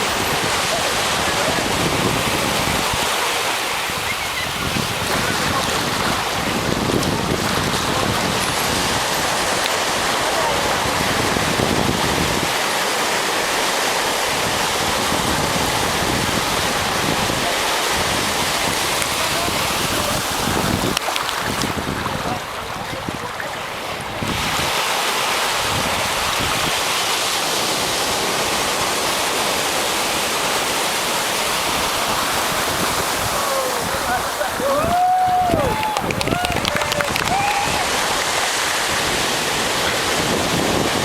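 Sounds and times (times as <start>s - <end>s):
surf washing onto beach: 0.0s - 41.0s
wind rumbling on microphone: 0.0s - 41.0s.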